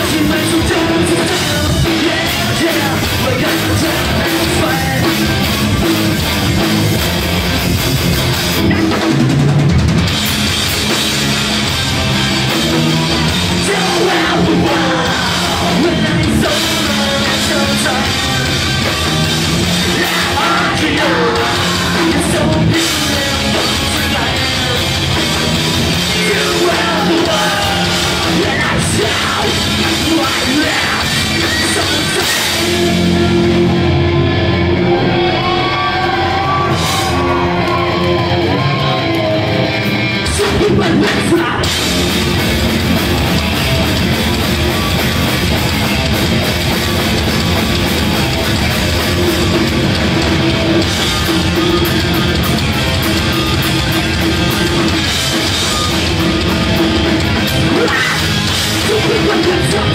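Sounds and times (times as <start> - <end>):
live ska-punk band playing: 0.0 - 59.9.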